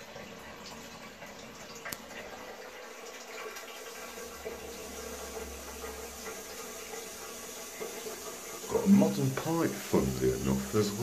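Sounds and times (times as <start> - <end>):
water refilling toilet cistern: 0.0 - 11.0.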